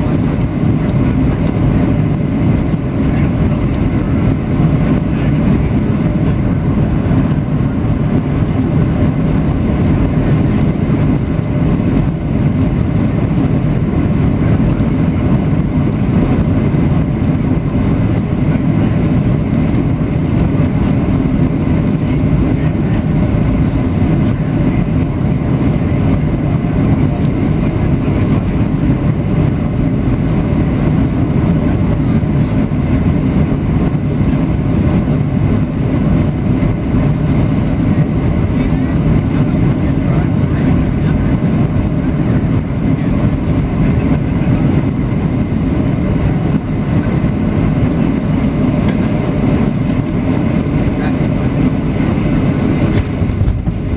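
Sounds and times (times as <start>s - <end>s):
airflow past airframe: 0.0s - 53.9s
jet engine rumble in cabin: 0.0s - 53.9s.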